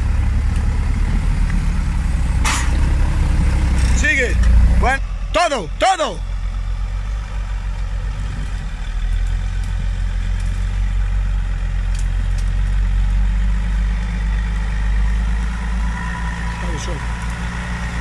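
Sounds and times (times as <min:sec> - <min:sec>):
vehicle engine running at low revs: 0:00.0 - 0:18.0.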